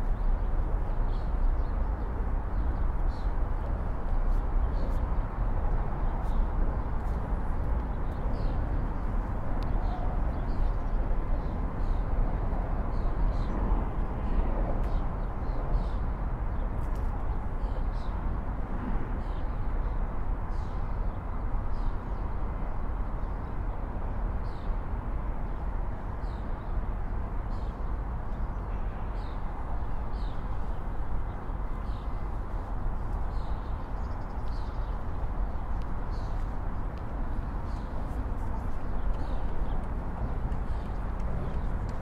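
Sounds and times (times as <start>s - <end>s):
low rumble of city traffic: 0.0s - 42.0s.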